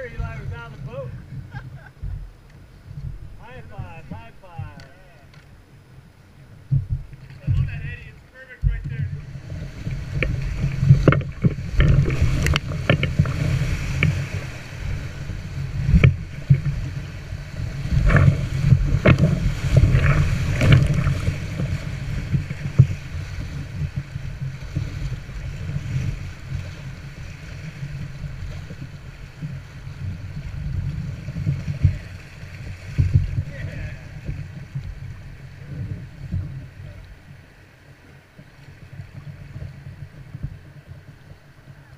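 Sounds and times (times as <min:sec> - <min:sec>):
low rumble: 0:00.0 - 0:37.6
rushing water: 0:02.4 - 0:41.9
paddle splashes and knocks: 0:06.6 - 0:41.8.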